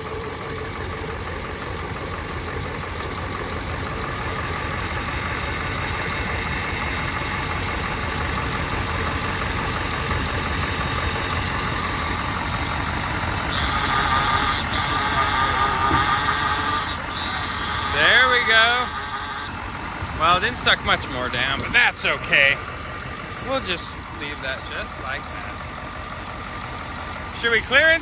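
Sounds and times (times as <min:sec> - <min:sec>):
diesel engine idling with clatter: 0:00.0 - 0:28.0.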